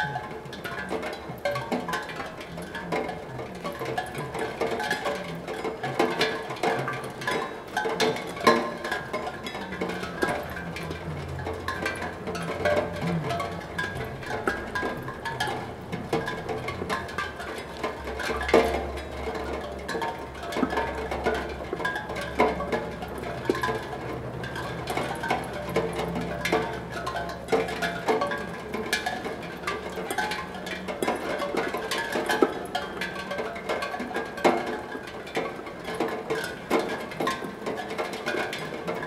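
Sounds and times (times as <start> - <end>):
raindrops on steel tongue drum: 0.0 - 39.0.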